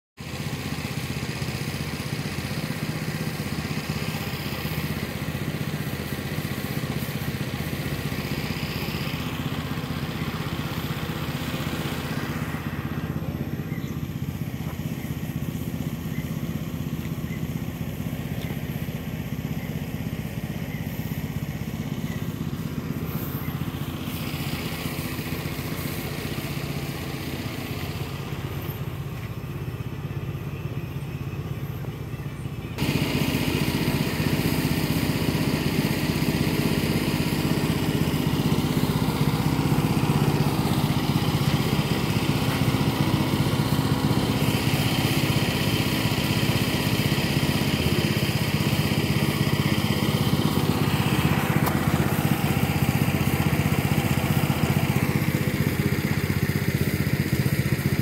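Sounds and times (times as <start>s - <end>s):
engine running steadily: 0.2s - 58.0s.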